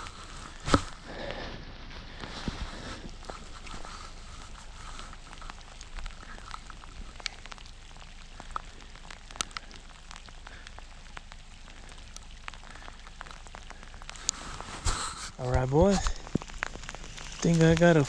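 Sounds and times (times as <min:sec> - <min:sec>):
raindrops ticking near microphone: 0:00.0 - 0:18.0
steady rain: 0:00.0 - 0:18.0.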